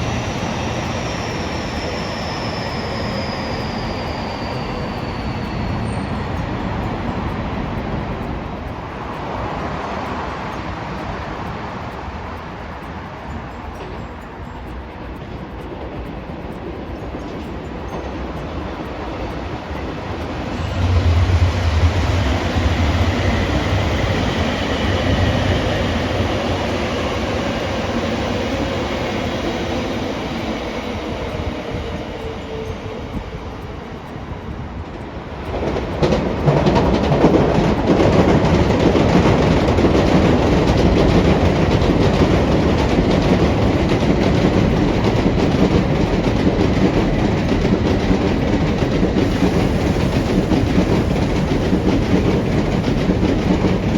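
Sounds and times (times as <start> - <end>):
close rail rumble with clicking: 0.0 - 53.9
train wheels clattering on rails: 0.0 - 53.9.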